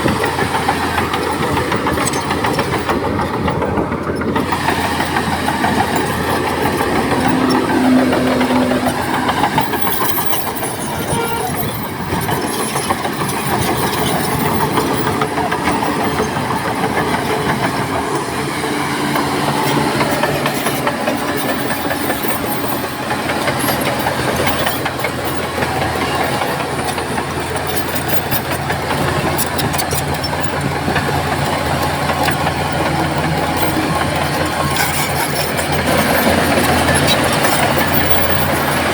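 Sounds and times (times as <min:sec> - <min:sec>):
mechanical clatter: 0:00.0 - 0:18.5, 0:19.1 - 0:38.9
bulldozer engine running: 0:00.0 - 0:38.9.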